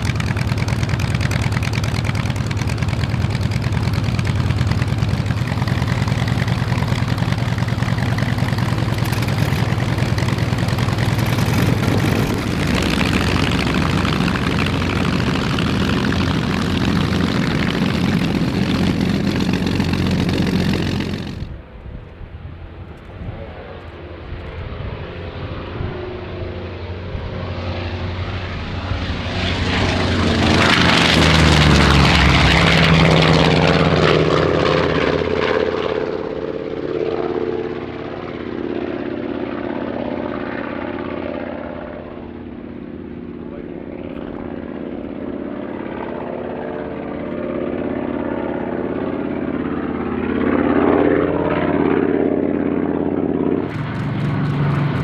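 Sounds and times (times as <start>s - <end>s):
propeller aircraft engine roaring: 0.0s - 55.0s.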